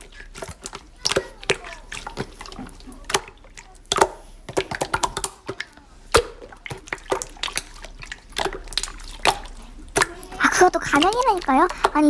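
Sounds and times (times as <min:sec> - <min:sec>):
slime squished by hand: 0:00.0 - 0:12.0.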